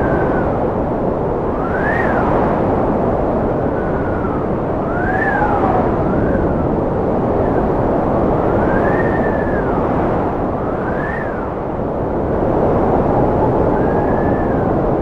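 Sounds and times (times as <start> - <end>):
wind howling with whistling tones: 0.0 - 15.0.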